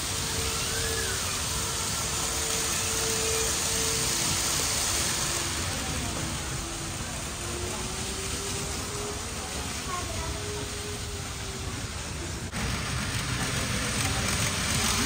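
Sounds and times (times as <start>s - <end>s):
model train hum: 0.0s - 15.0s
shop background noise: 0.0s - 15.0s.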